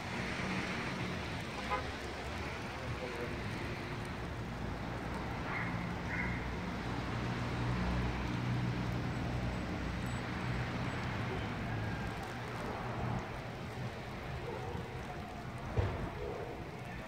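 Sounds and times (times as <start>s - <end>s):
rain falling on wet street: 0.0s - 17.0s.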